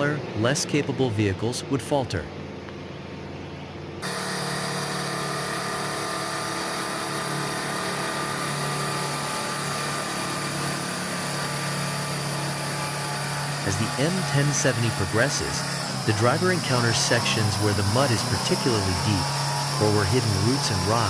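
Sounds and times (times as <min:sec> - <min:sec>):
truck engine running: 0:02.2 - 0:21.0.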